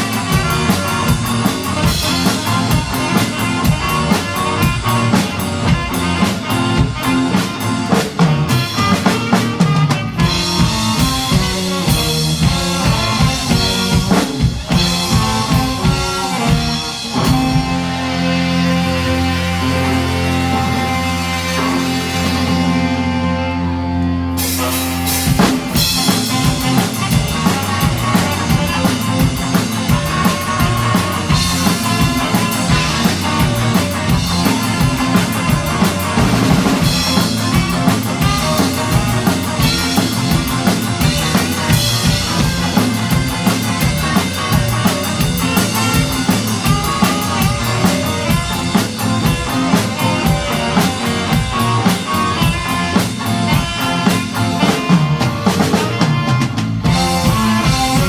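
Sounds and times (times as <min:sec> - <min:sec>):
drum kit beat: 0:00.0 - 0:23.2, 0:24.4 - 0:58.0
live band playing: 0:00.0 - 0:58.0.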